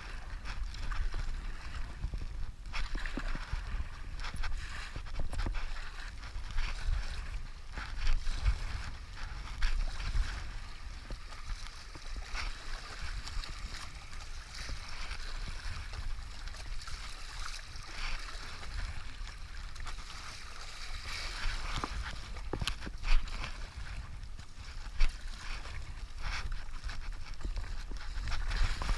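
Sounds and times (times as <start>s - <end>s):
paddle stroke splashes: 0.0s - 28.9s
wind rumbling on microphone: 0.0s - 28.9s.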